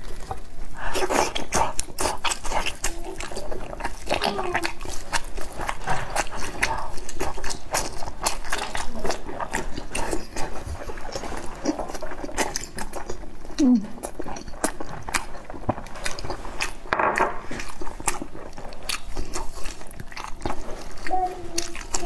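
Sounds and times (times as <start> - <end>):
wet chewing and lip-smacking: 0.0 - 22.0.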